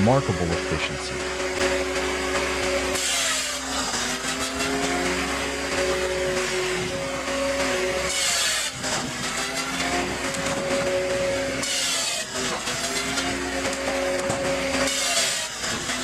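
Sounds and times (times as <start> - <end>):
machine hum: 0.0 - 14.9.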